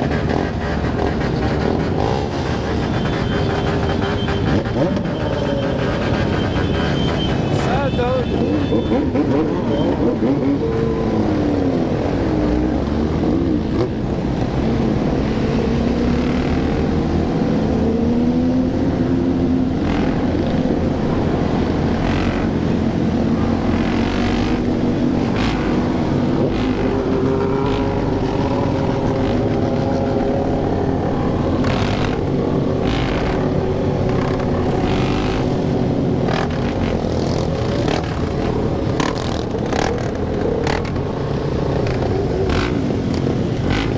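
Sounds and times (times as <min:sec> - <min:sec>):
motorcycle engines revving: 0:00.0 - 0:43.9.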